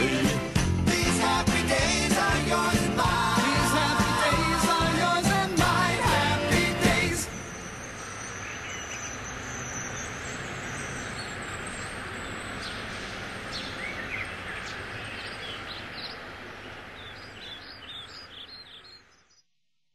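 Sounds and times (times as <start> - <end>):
birds chirping: 0.0 - 19.6.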